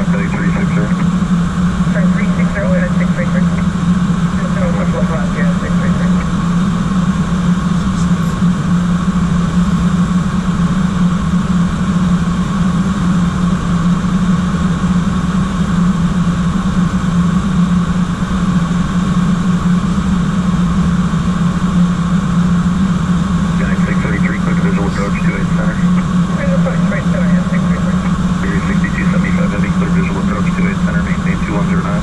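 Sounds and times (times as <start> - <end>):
constant low hum: 0.0 - 32.0.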